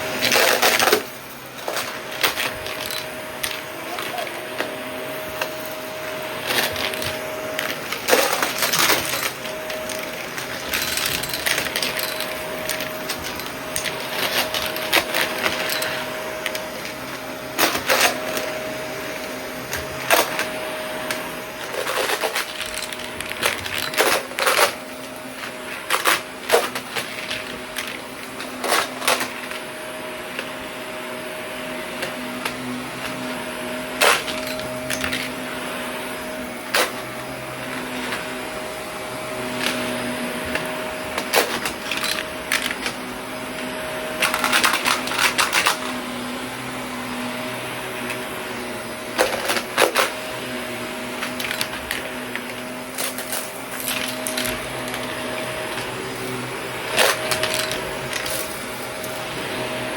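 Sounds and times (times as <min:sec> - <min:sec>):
debris rattling through vacuum: 0:00.0 - 0:30.6, 0:31.9 - 0:59.9
vacuum cleaner whine: 0:00.0 - 0:59.9.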